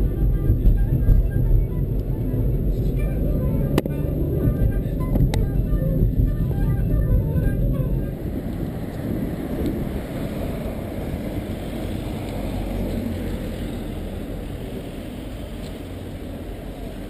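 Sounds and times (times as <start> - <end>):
faint street noise: 0.0 - 17.0
wind buffeting microphone: 0.0 - 17.0.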